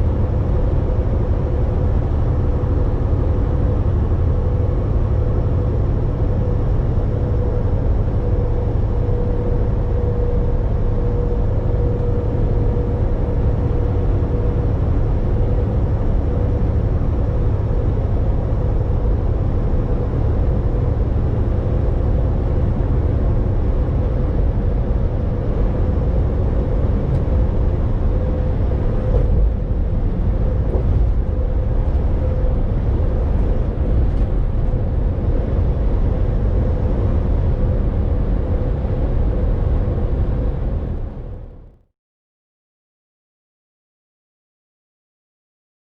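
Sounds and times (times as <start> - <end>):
constant hum: 0.0 - 41.8
truck engine and road rumble: 0.0 - 41.8.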